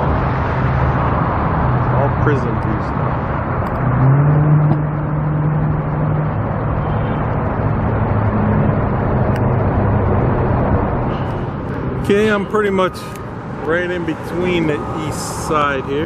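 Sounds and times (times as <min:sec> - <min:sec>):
road traffic noise: 0:00.0 - 0:16.0
vehicle engine hum: 0:00.0 - 0:16.0.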